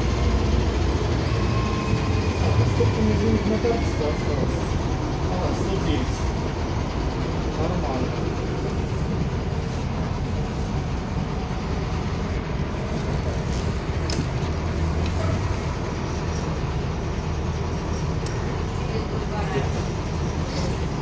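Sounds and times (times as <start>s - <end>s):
bus engine rumble: 0.0s - 21.0s.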